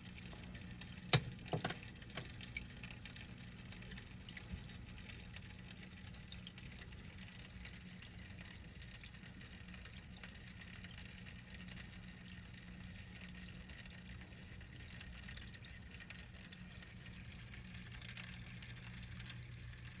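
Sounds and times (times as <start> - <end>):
filter low hum: 0.0 - 20.0
water trickling and dripping: 0.0 - 20.0.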